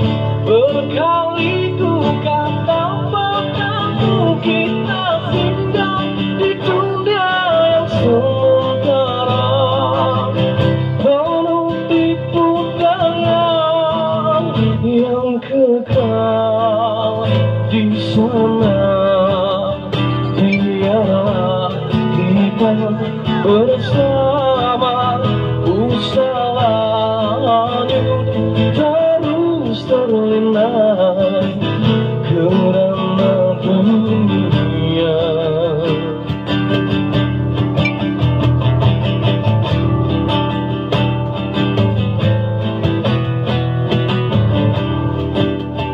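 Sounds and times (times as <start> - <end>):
man singing into microphone: 0.0 - 36.9
acoustic guitar strumming: 0.0 - 45.9.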